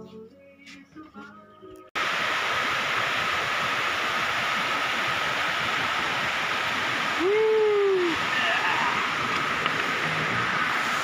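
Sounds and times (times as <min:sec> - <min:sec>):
water pouring over rocks: 0:02.0 - 0:11.0.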